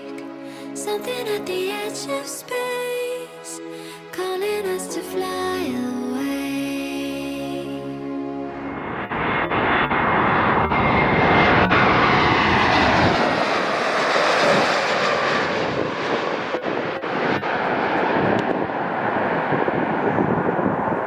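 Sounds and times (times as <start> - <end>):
airliner engines passing: 0.0 - 4.5, 8.0 - 21.0.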